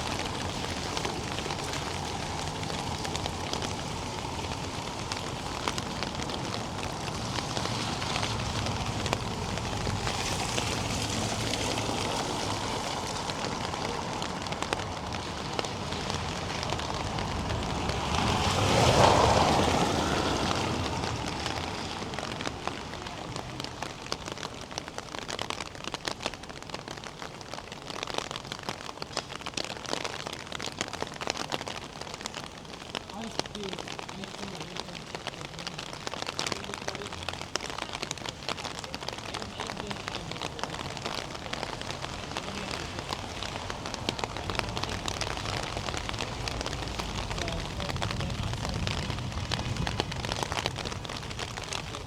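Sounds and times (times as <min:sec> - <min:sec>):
rain splashing on hard surfaces: 0:00.0 - 0:52.0.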